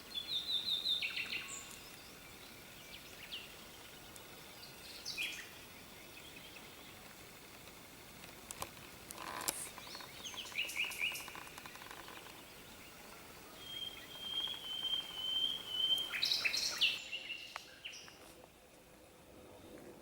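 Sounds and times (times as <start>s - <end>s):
songbirds singing: 0.0s - 8.0s, 8.6s - 18.2s.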